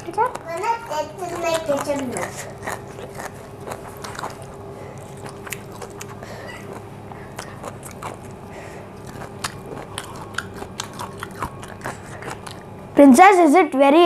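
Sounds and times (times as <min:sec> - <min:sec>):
chewing crunchy vegetables: 0:00.0 - 0:12.8.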